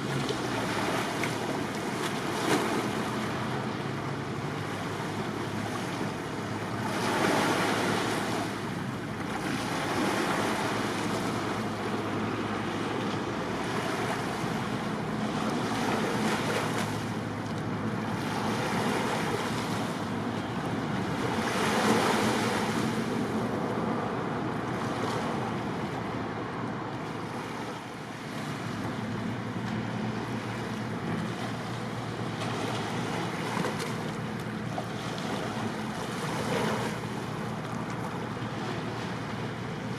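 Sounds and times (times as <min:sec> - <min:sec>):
low engine hum: 0:00.0 - 0:39.9
sea water washing: 0:00.0 - 0:39.9.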